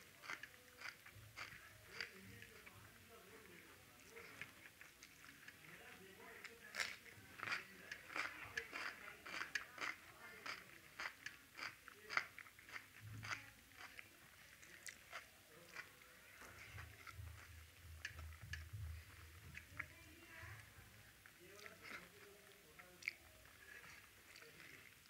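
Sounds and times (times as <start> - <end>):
close chewing with crunches: 0.0 - 25.0.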